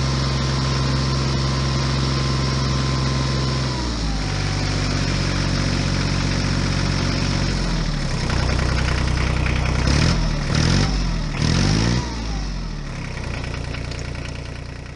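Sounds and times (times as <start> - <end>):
diesel engine idling and revving: 0.0 - 14.9.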